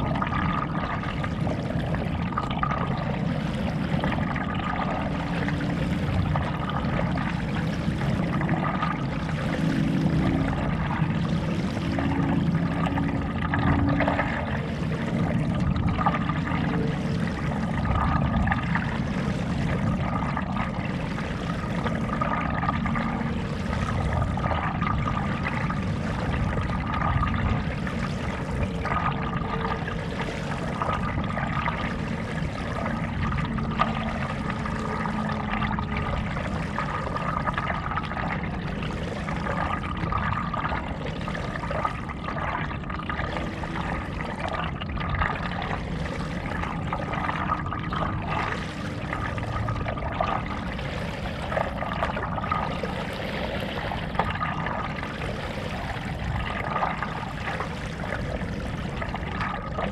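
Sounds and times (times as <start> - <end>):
paddle strokes splashing water: 1.5 - 59.9.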